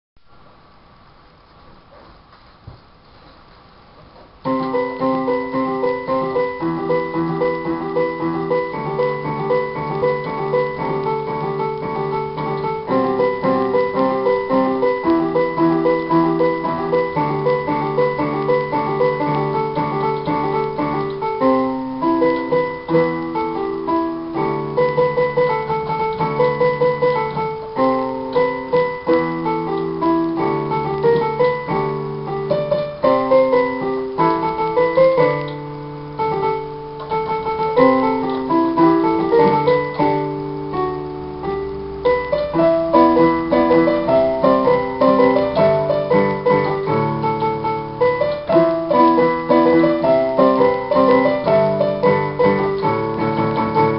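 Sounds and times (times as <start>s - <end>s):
electronic keyboard piano playing: 4.3s - 53.9s.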